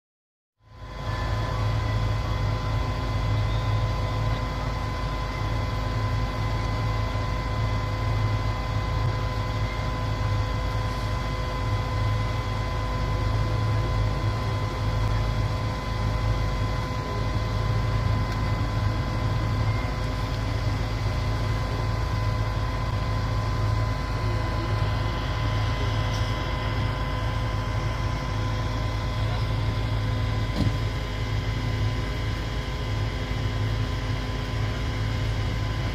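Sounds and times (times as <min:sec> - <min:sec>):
constant whine: 0:00.6 - 0:35.9
vehicle engines droning: 0:00.7 - 0:35.9.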